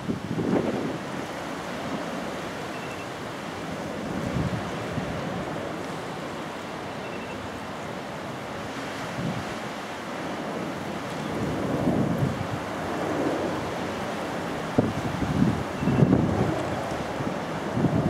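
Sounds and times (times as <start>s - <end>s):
wind buffeting microphone: 0.0s - 6.9s, 7.6s - 18.0s
distant jet airliner roar: 0.0s - 18.0s.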